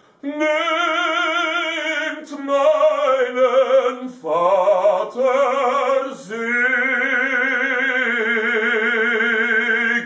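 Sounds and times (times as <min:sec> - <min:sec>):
man singing operatically: 0:00.2 - 0:10.0.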